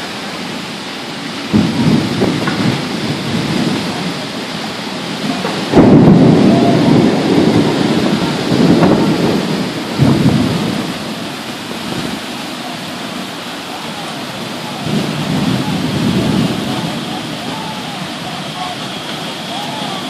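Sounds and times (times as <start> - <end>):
heavy wind-driven rain: 0.0 - 20.0
loud low rumbling surges: 0.0 - 20.0.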